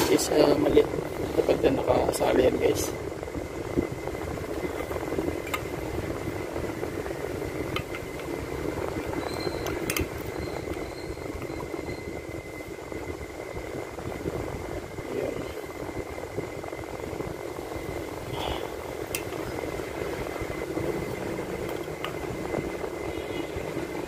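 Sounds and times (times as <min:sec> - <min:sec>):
faint high whine: 0:00.0 - 0:24.0
steady mechanical hum: 0:00.0 - 0:24.0.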